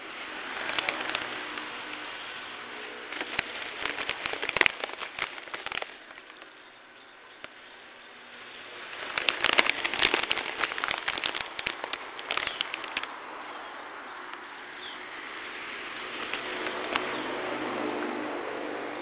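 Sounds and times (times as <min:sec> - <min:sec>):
firecrackers crackling: 0:00.0 - 0:13.5, 0:15.3 - 0:17.3
steady hiss: 0:00.0 - 0:19.0.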